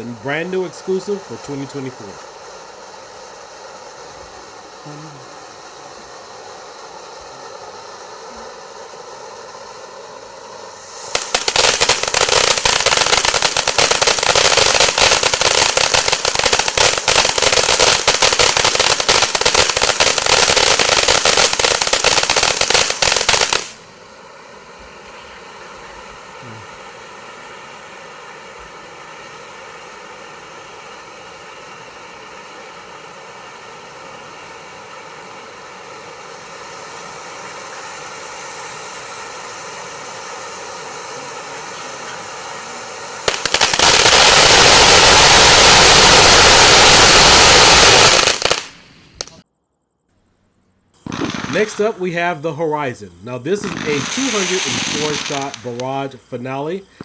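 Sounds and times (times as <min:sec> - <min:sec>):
firework fountain crackling: 0:00.0 - 0:49.5, 0:51.0 - 0:57.0.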